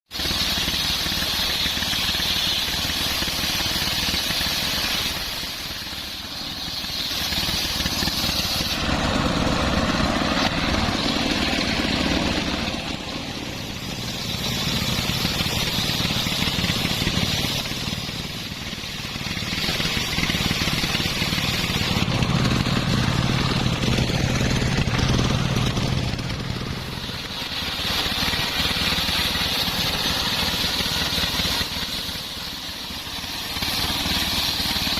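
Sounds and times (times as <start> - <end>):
circular sawmill cutting timber: 0.0 - 34.9.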